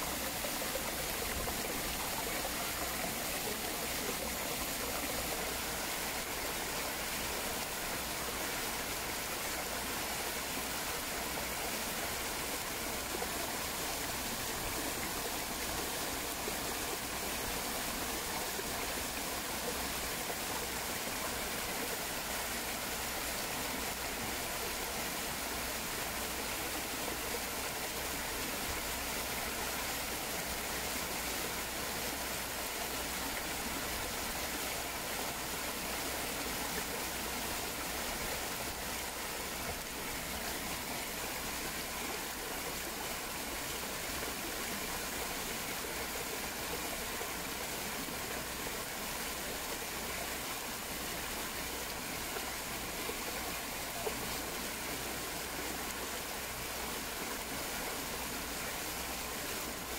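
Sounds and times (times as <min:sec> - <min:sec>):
waterfall rushing and splashing: 0:00.0 - 0:59.9.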